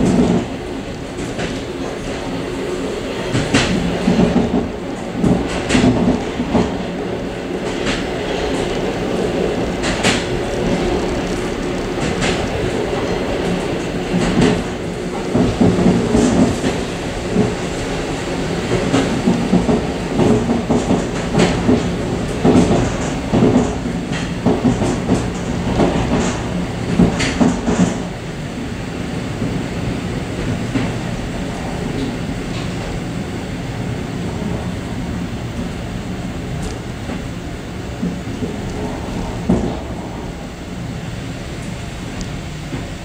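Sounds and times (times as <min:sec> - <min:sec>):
train rumbling and rattling: 0:00.0 - 0:43.0.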